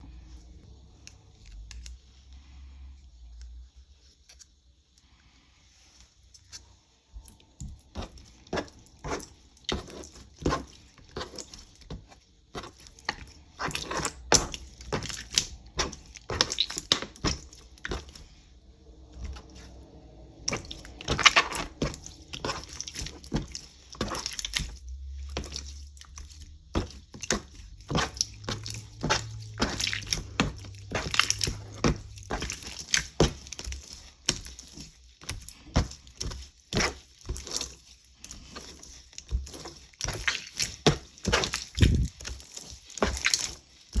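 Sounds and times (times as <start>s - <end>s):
slime squished by hand: 6.5s - 44.0s.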